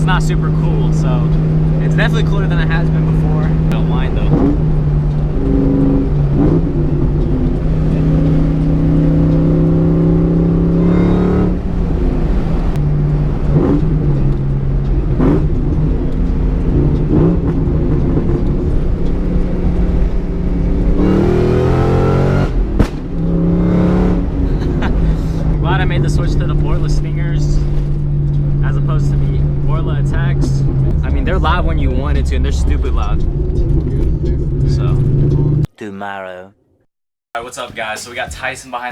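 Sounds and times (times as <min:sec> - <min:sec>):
car engine accelerating through gears: 0:00.0 - 0:35.7.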